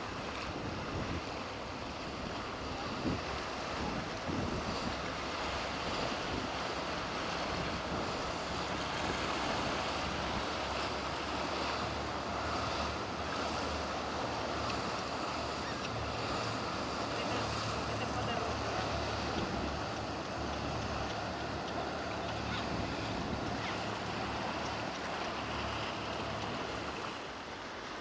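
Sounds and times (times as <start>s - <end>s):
wind buffeting microphone: 0.0s - 27.2s
surf washing: 0.0s - 28.0s.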